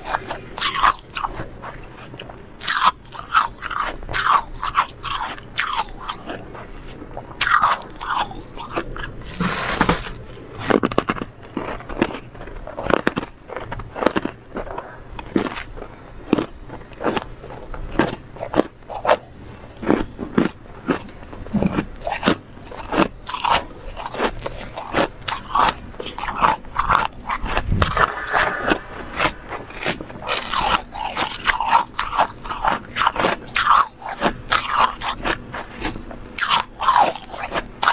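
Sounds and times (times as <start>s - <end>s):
crunching frost being chewed: 0.0s - 37.9s.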